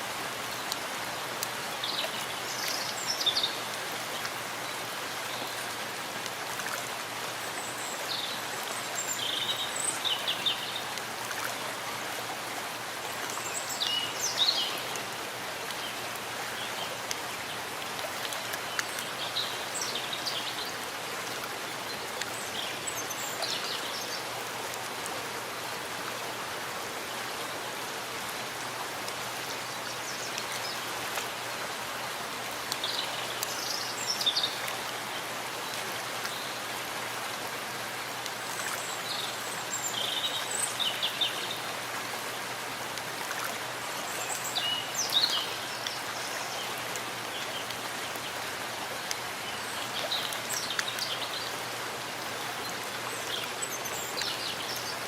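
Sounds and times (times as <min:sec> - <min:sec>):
rain falling in a forest: 0:00.0 - 0:55.0.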